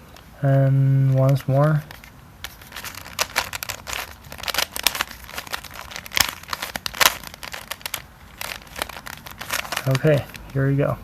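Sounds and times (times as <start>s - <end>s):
puzzle cube clicking and rattling: 1.2s - 10.6s.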